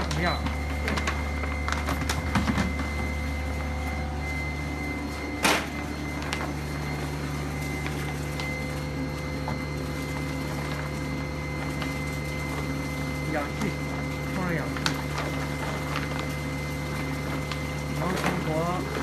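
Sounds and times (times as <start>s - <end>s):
machine hum with high whine: 0.0s - 19.0s.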